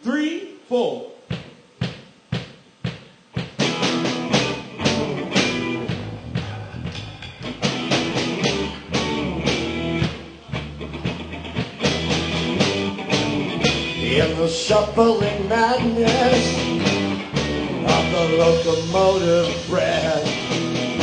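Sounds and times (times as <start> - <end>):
rock band playing: 3.4 - 21.0.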